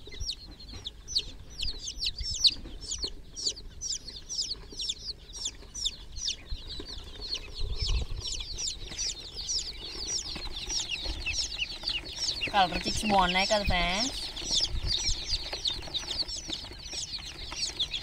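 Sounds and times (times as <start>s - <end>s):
baby chicks peeping: 0.0s - 18.0s.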